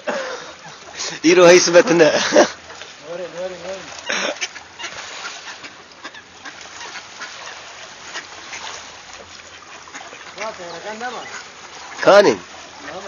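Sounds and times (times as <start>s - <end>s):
ducks quacking: 0.0s - 13.0s
ducks splashing in water: 0.0s - 13.0s.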